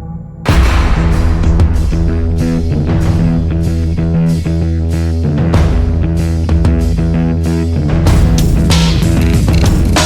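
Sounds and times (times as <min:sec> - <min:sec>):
rock music with guitar and bass: 0:00.5 - 0:10.0.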